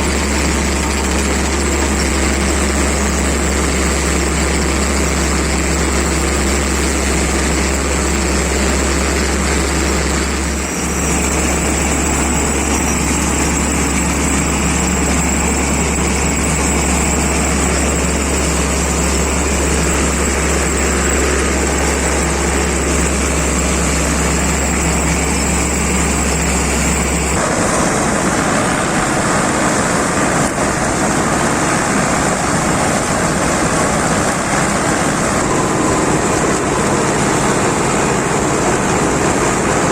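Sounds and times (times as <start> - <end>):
combine harvester running: 0.0 - 39.9
low steady drone: 0.0 - 39.9.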